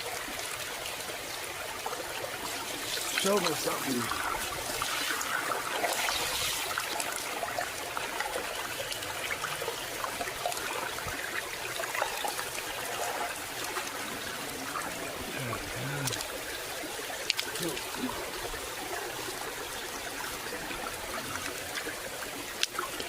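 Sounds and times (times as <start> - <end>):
water running over rocks: 0.0 - 23.0.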